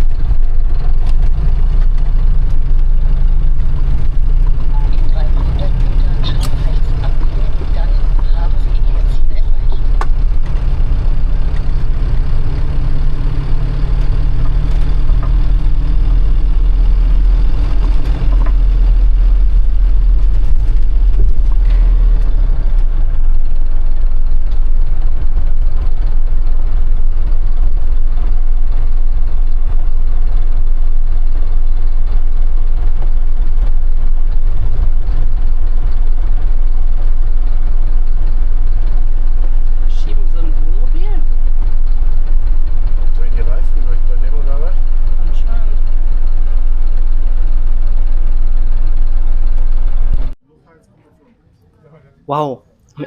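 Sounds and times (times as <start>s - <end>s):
vehicle engine and road noise: 0.0s - 52.1s.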